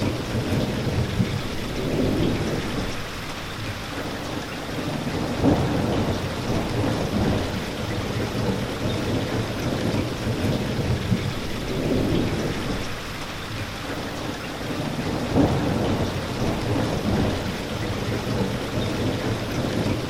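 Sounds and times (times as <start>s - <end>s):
rolling thunder rumbling: 0.0s - 3.6s, 4.8s - 13.5s, 14.8s - 20.0s
heavy rain: 0.0s - 20.0s.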